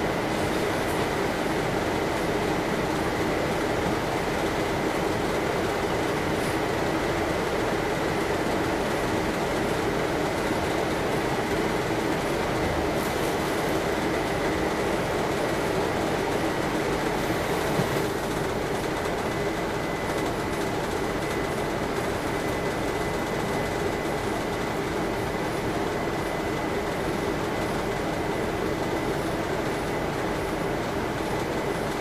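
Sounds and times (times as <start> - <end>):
thin steady whine: 0.0 - 32.0.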